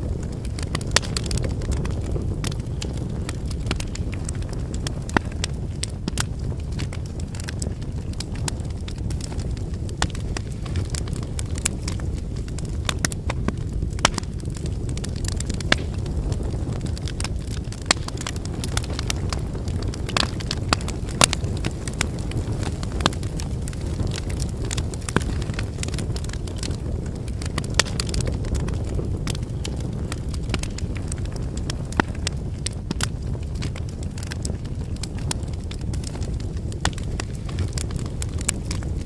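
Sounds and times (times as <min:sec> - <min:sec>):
campfire crackling and popping: 0:00.0 - 0:39.0
low rumble of flames: 0:00.0 - 0:39.0.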